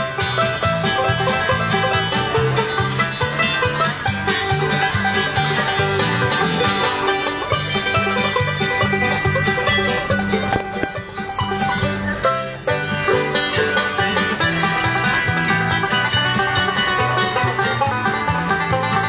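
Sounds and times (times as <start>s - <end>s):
bluegrass banjo picking: 0.0s - 19.0s.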